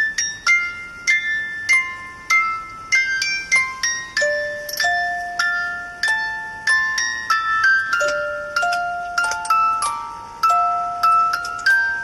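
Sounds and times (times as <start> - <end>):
music box playing: 0.0 - 12.0.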